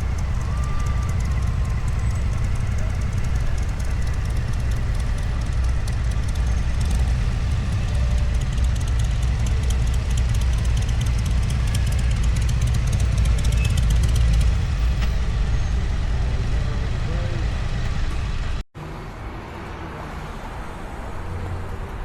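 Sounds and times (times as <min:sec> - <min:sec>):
vehicle engines rumbling: 0:00.0 - 0:22.0.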